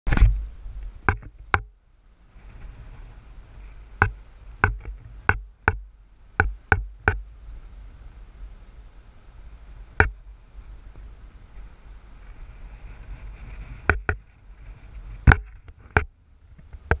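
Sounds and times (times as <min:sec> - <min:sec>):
low steady rumble: 0:00.1 - 0:17.0.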